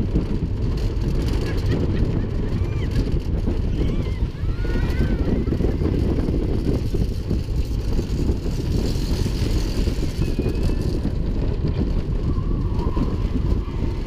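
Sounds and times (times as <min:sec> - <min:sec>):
roller coaster wheels rumbling: 0:00.0 - 0:14.0
rushing wind: 0:00.0 - 0:14.0.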